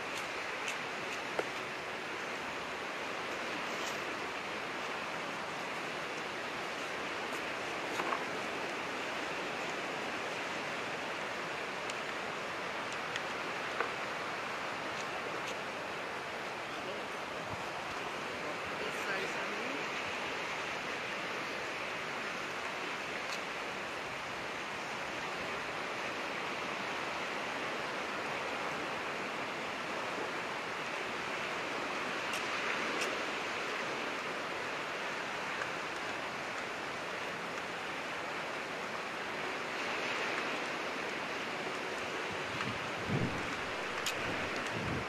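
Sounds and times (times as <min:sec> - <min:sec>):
sea surf on shore: 0:00.0 - 0:45.0.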